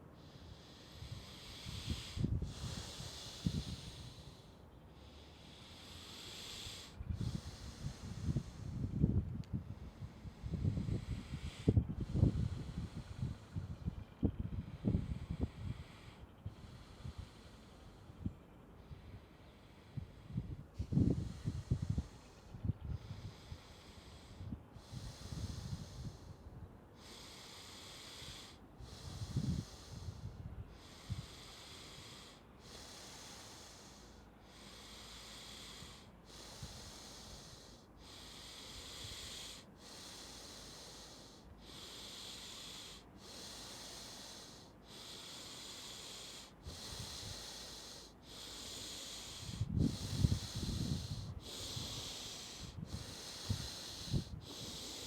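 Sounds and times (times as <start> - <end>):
deep rhythmic breathing: 0.0 - 55.0.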